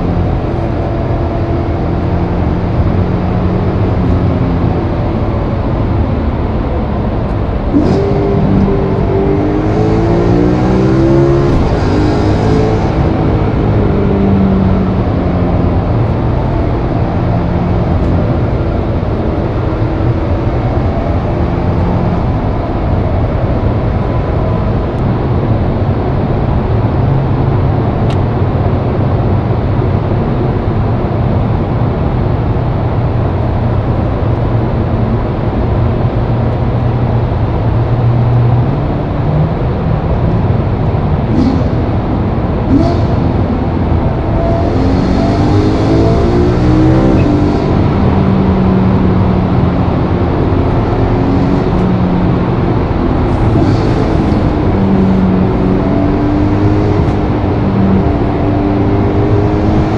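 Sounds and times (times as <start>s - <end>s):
car engine accelerating: 0.0s - 59.9s
road and tyre noise: 0.0s - 59.9s.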